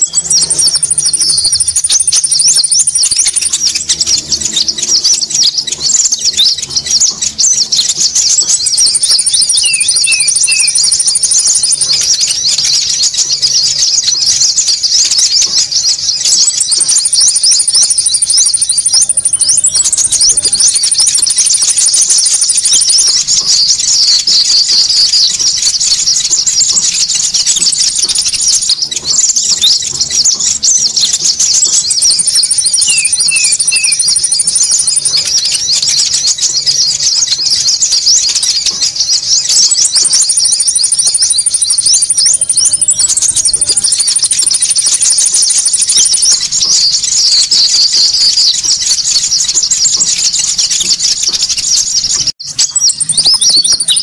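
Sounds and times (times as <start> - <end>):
rapid high-pitched bird chirps: 0.0 - 54.0
very high bird trills: 0.0 - 54.0.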